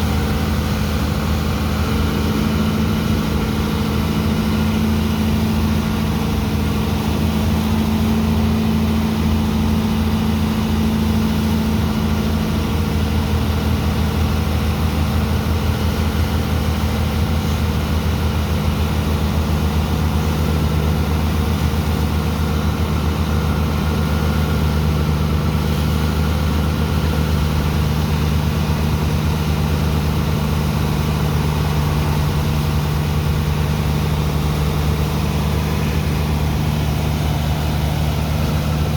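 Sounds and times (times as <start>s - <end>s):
large diesel engine droning: 0.0s - 38.9s.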